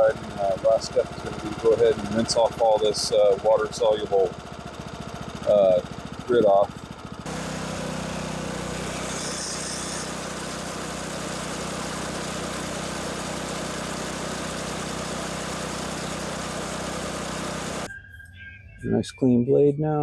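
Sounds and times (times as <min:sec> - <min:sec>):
water spraying onto mower reel: 0:00.0 - 0:17.9
engine hum: 0:00.0 - 0:19.2.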